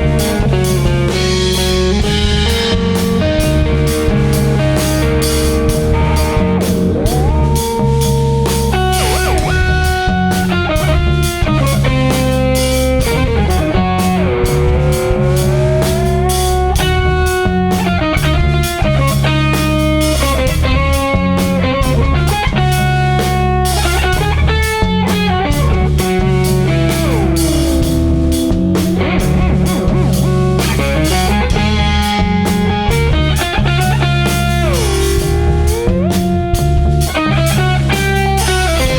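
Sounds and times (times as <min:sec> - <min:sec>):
baritone guitar: 0:00.0 - 0:38.9
drum kit groove: 0:00.0 - 0:38.9
sliding lead guitar notes: 0:00.0 - 0:38.9.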